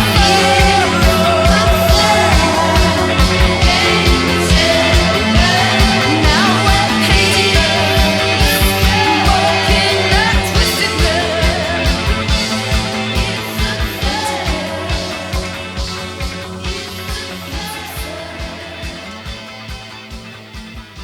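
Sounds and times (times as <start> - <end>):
person singing: 0.0 - 19.7
drum beat: 0.0 - 21.0
guitars: 0.0 - 21.0.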